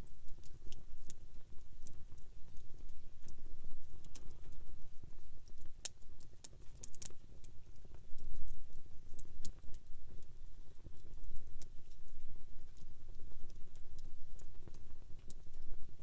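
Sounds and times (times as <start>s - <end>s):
campfire flames fluttering: 0.0s - 16.0s
fire crackles and pops: 0.0s - 16.0s.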